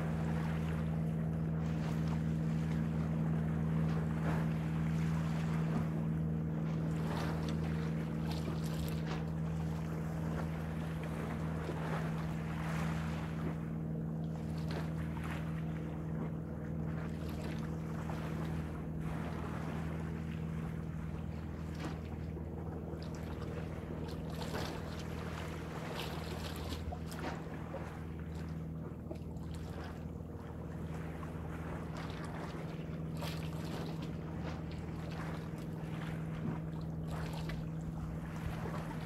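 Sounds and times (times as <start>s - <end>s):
low mechanical hum: 0.0s - 39.0s
sea water washing: 0.0s - 39.0s.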